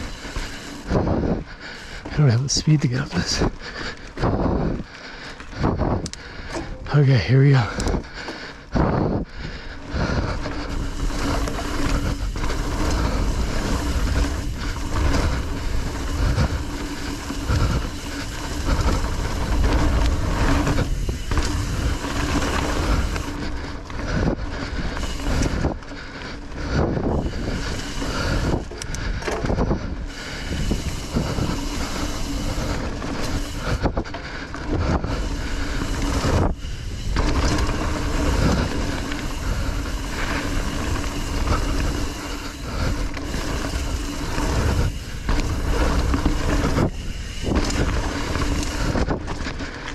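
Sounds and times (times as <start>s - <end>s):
bike knocking and rattling: 0.0s - 49.9s
bike tyres rolling over dirt: 0.0s - 49.9s.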